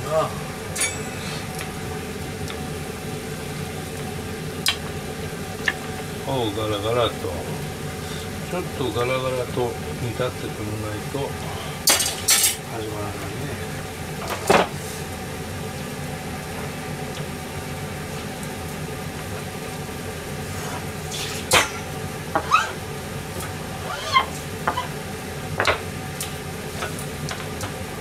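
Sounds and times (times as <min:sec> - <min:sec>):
bubbling liquid and flame hiss: 0:00.0 - 0:28.0.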